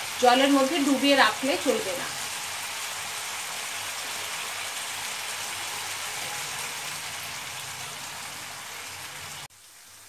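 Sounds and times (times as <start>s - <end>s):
vegetables sizzling in frying pan: 0.0s - 10.0s.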